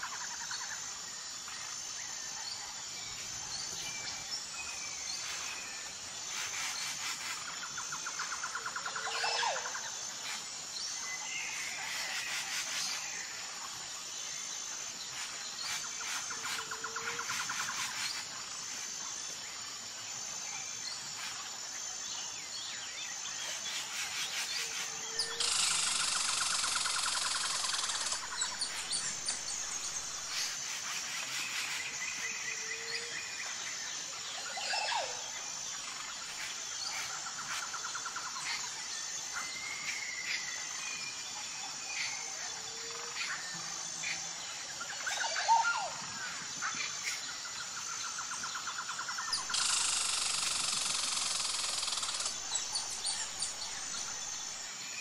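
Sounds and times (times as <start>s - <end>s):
pulsing insect trill: 0.0s - 55.0s.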